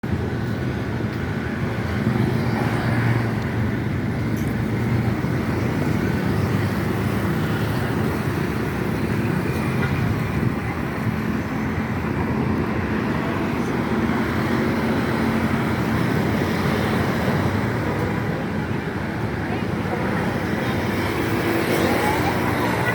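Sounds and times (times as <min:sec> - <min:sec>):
road traffic rumble: 0:00.0 - 0:22.9.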